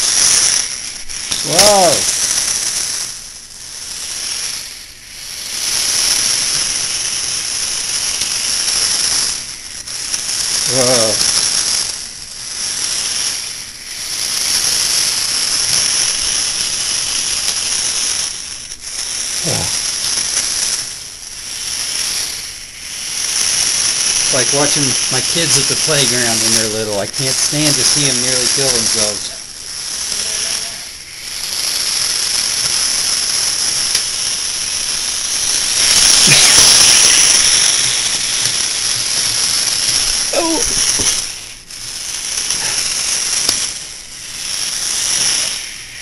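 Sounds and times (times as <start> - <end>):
small electric motors whirring: 0.0 - 46.0.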